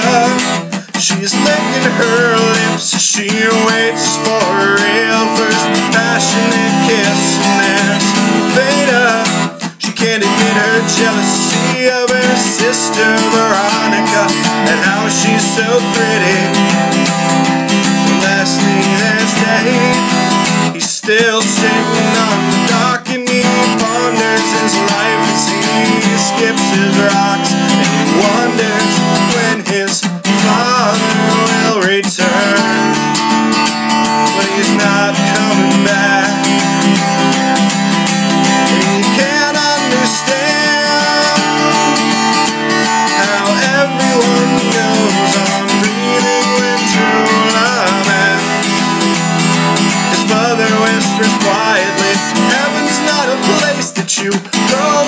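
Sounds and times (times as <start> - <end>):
acoustic guitar strumming: 0.0 - 55.0
man singing: 0.0 - 55.0.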